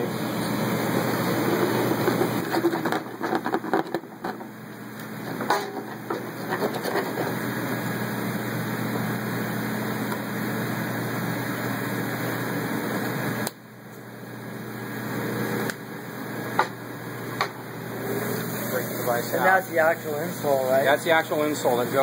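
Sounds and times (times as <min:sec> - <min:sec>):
cnc router whirring hum: 0:00.0 - 0:22.0.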